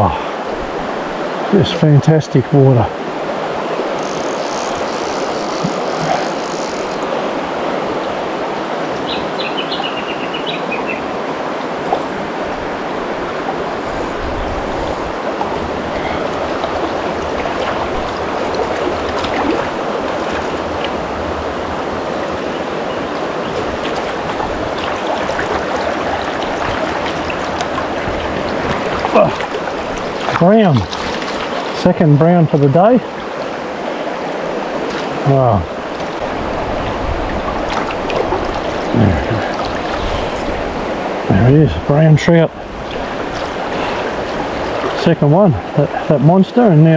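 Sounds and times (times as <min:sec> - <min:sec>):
stream running over rocks: 0:00.0 - 0:46.9.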